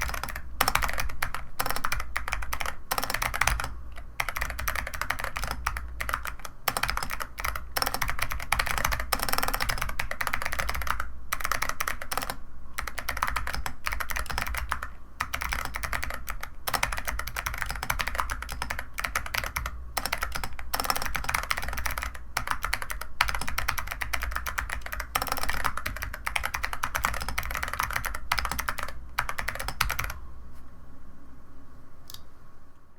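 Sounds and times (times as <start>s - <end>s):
typing on mechanical keyboard: 0.0s - 30.2s.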